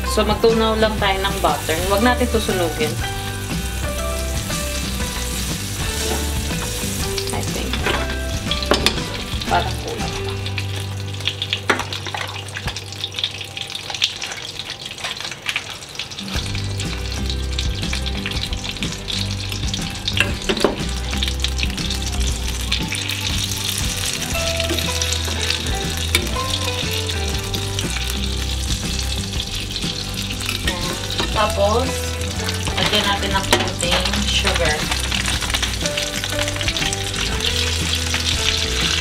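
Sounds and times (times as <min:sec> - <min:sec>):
butter sizzling in frying pan: 0:00.0 - 0:39.0.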